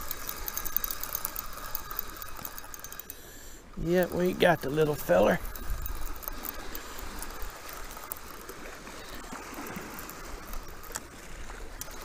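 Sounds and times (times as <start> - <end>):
fishing reel cranking: 0.0 - 12.0
water lapping at bank: 0.0 - 12.0.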